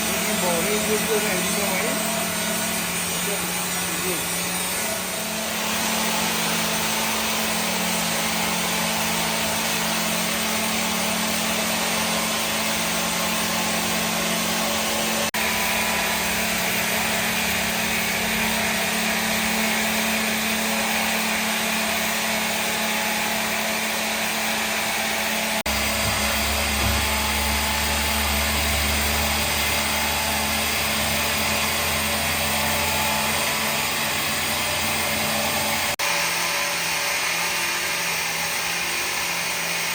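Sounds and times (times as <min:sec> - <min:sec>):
electric power tool on wood: 0:00.0 - 0:39.9.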